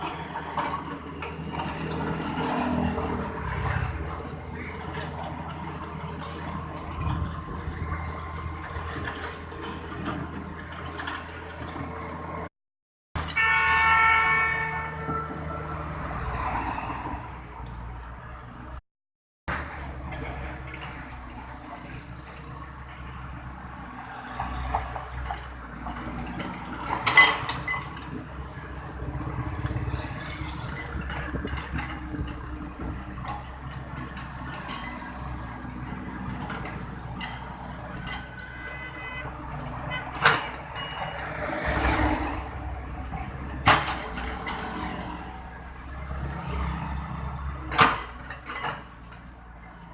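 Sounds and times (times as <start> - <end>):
road traffic rumble: 0.0 - 12.5, 13.2 - 18.8, 19.5 - 49.9.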